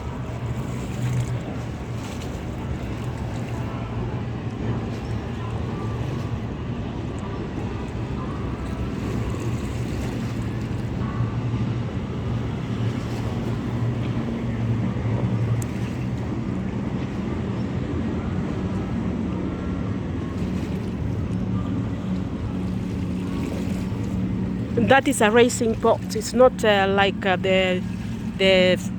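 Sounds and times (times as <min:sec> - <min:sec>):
boat engine droning: 0:00.0 - 0:28.9
water noise: 0:00.0 - 0:28.9.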